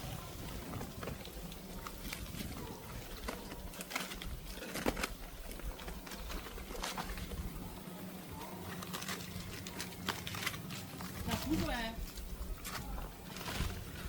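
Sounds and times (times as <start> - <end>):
rustling: 0.0 - 14.0.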